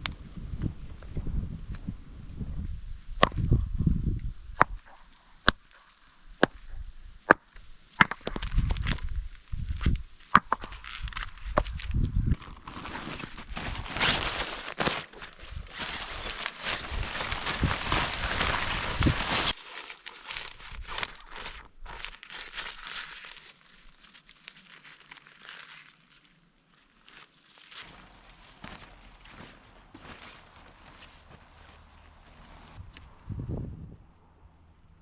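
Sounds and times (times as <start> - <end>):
crinkling and rustling handling: 3.2 - 33.1.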